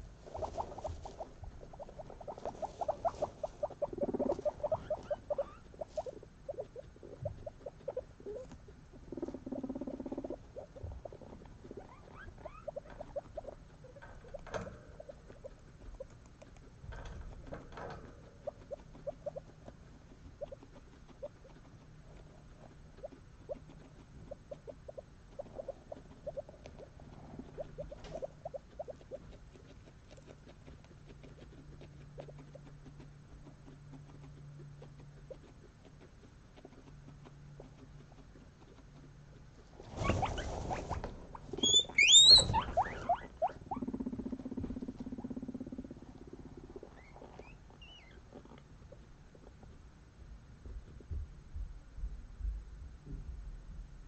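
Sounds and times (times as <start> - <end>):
guinea pigs chewing hay: 0.0 - 53.2.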